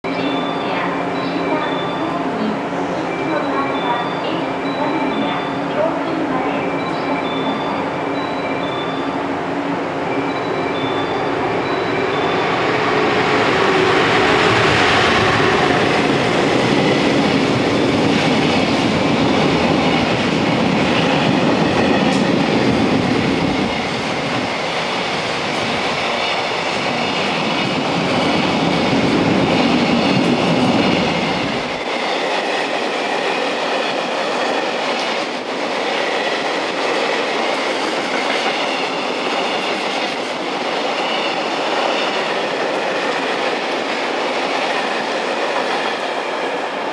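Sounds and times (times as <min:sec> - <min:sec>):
deep train rumble: 0:02.0 - 0:46.9.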